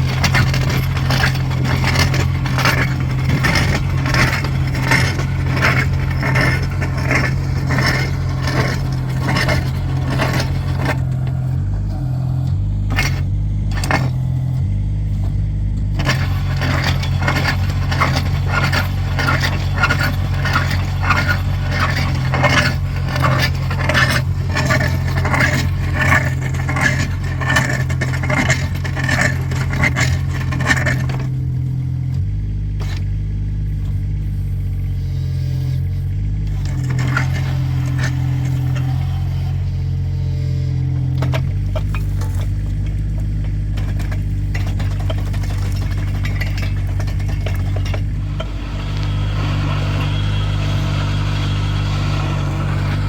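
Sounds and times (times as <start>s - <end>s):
auger scraping and rattling in soil: 0.0s - 53.0s
diesel engine running: 0.0s - 53.0s.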